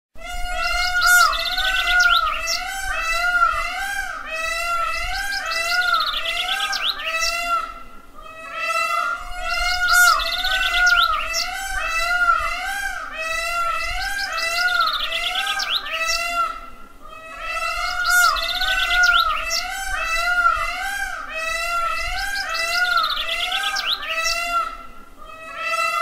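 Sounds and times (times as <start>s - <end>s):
peafowl calls: 0.2s - 26.0s.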